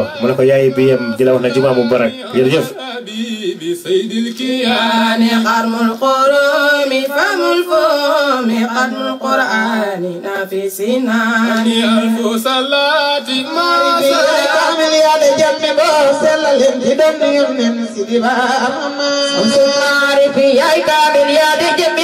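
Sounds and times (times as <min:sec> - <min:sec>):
voices singing devotional chant: 0:00.0 - 0:22.0.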